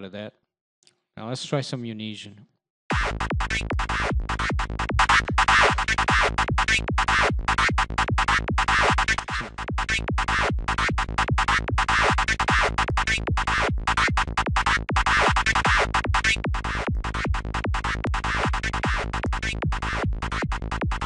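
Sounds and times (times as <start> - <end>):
steady low bass: 2.9 - 21.0.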